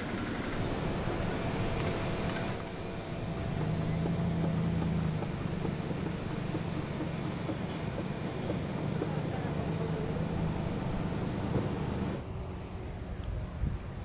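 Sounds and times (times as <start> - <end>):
heavy machinery rumble: 0.0 - 13.0.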